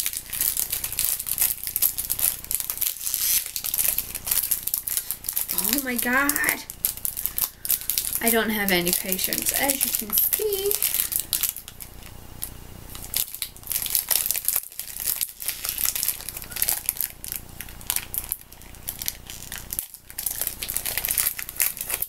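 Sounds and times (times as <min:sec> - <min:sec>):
chocolate bar wrapper crinkling: 0:00.0 - 0:22.0.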